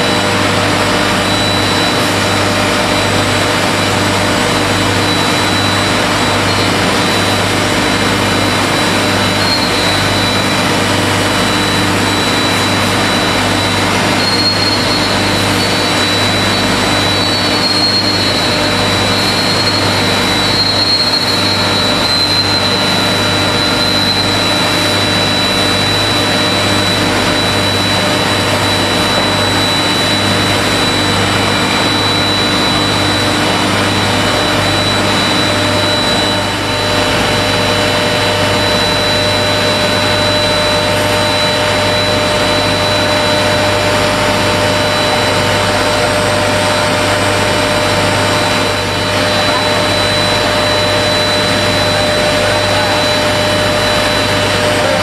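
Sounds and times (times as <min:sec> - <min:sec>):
factory machinery roar: 0:00.0 - 0:55.0
high machine whine: 0:00.0 - 0:55.0
low machine hum: 0:00.0 - 0:55.0.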